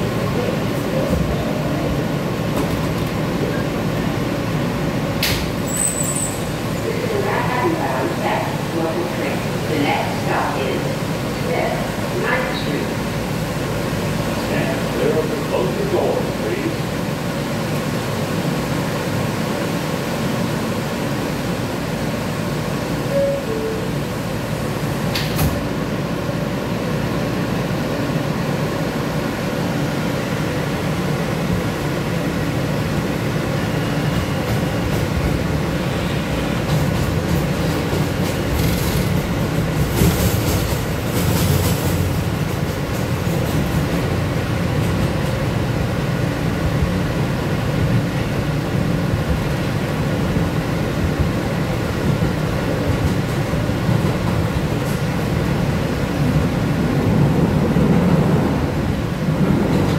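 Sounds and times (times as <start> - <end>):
subway car rumbling on rails: 0.0 - 59.9.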